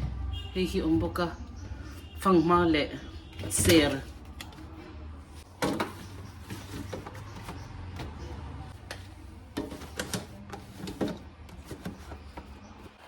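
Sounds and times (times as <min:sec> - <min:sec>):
vegetables and containers handled: 0:00.0 - 0:13.0.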